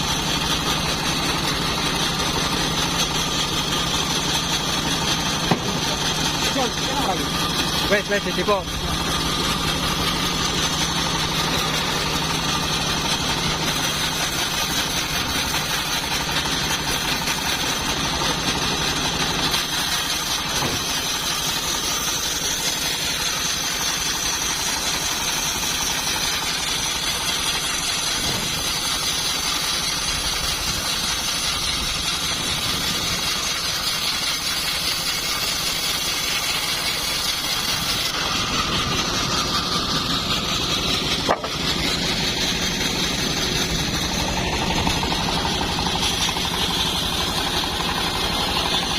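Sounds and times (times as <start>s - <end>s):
band sawmill droning: 0.0s - 48.9s.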